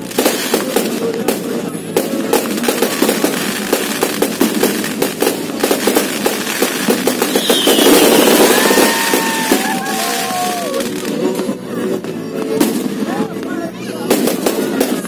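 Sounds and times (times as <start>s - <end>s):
firework whistling: 0.0s - 13.2s
fireworks bangs and crackles: 0.0s - 15.0s.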